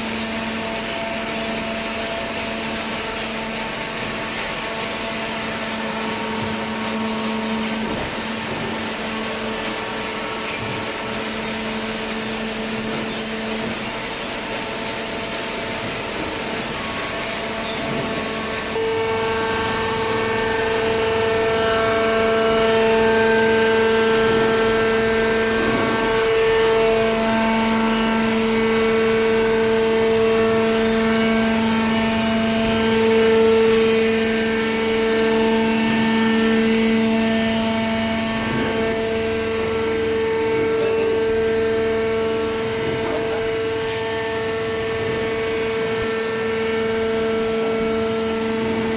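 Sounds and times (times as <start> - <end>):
machine hum with held tones: 0.0 - 48.9.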